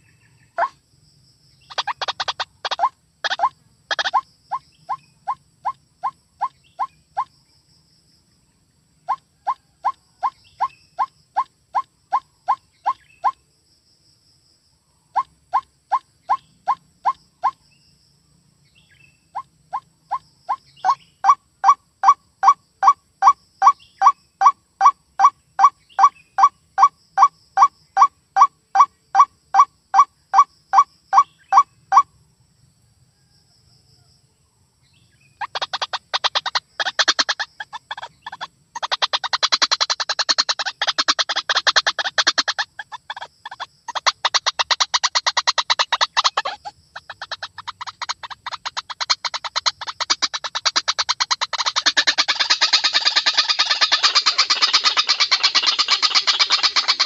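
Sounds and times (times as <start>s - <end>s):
bird repeated calls: 0.0s - 0.8s, 1.5s - 7.6s, 9.0s - 13.4s, 15.1s - 17.6s, 18.8s - 32.1s, 35.3s - 57.0s
harsh bird chattering chorus: 0.0s - 0.8s, 1.6s - 7.5s, 9.0s - 13.4s, 15.1s - 17.6s, 18.8s - 29.7s, 30.3s - 32.1s, 35.3s - 57.0s.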